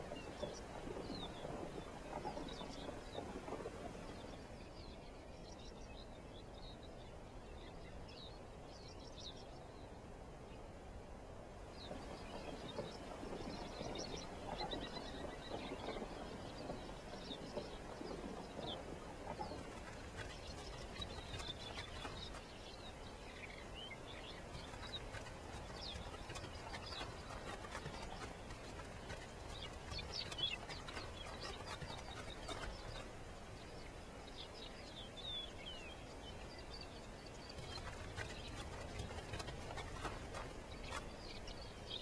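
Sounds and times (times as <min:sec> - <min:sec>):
small birds chirping: 0:00.0 - 0:10.7, 0:11.7 - 0:42.0
low steady background noise: 0:00.0 - 0:42.0.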